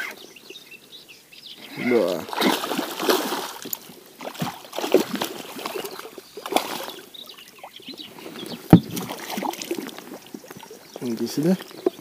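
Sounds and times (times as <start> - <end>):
fish splashing in water: 2.0 - 12.0.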